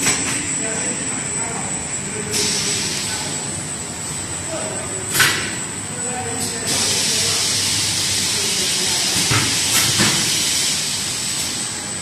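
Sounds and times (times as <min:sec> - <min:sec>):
high machine whine: 0:00.0 - 0:12.0
machinery hiss: 0:00.6 - 0:04.2, 0:05.1 - 0:12.0.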